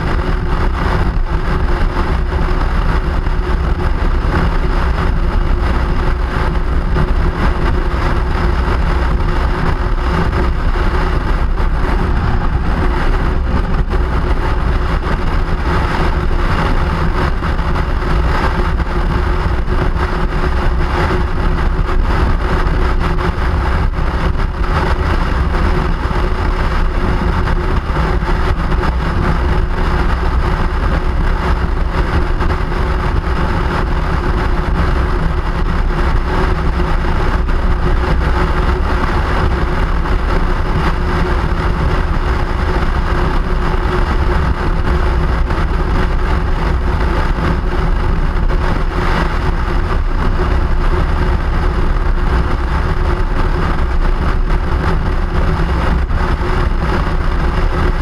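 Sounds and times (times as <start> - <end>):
vehicle travel rumble: 0.0 - 58.0.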